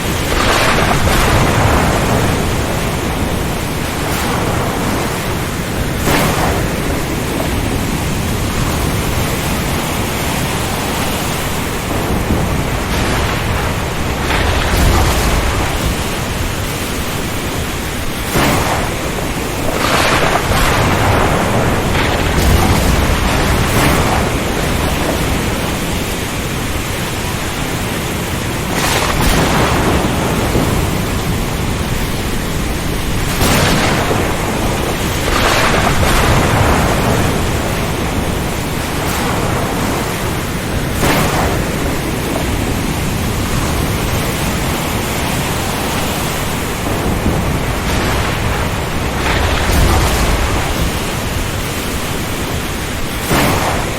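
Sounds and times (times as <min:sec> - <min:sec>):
heavy surf breaking: 0:00.0 - 0:53.9
steady rain: 0:00.0 - 0:53.9
strong wind: 0:00.0 - 0:53.9
thunder rumbling: 0:00.0 - 0:53.9.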